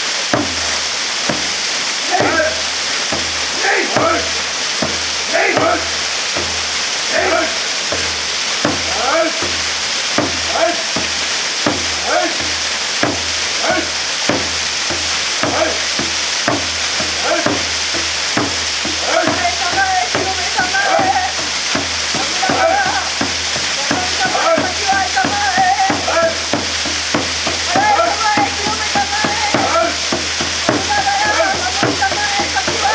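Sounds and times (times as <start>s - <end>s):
waterfall pouring: 0.0s - 32.9s
regular beat: 0.3s - 32.9s.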